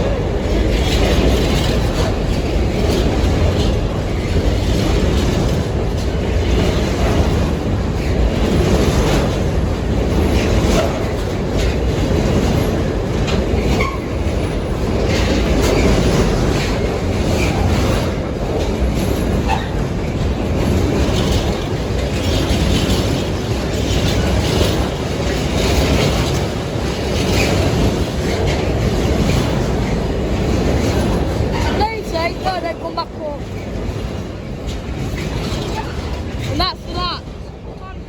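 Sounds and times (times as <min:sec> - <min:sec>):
train rumbling past: 0:00.0 - 0:38.0
wheels clicking over rail joints: 0:00.0 - 0:38.0.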